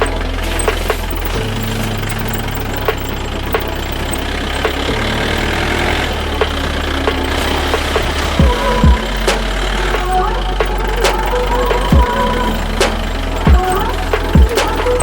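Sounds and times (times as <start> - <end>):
sharp clicks: 0.0 - 15.0
vehicle engine running at low revs: 0.0 - 15.0.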